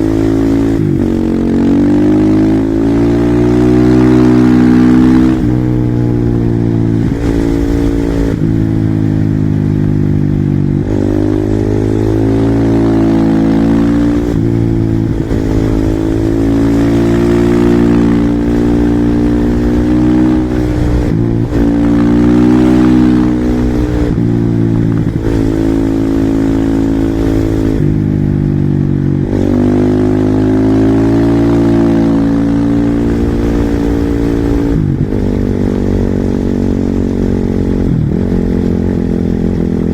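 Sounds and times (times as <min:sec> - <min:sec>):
motorcycle engine revving at full throttle: 0:00.0 - 0:39.9.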